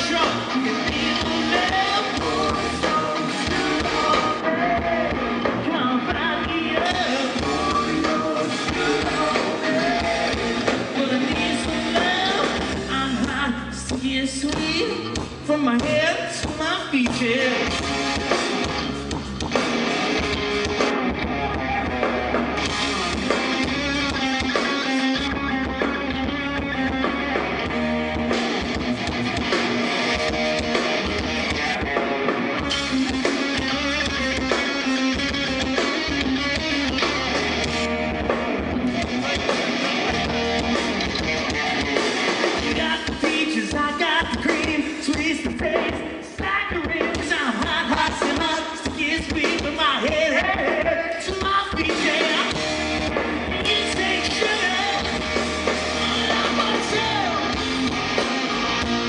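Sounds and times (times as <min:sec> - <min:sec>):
bass guitar: 0:00.0 - 0:59.0
distorted electric guitars: 0:00.0 - 0:59.0
drum kit: 0:00.0 - 0:59.0.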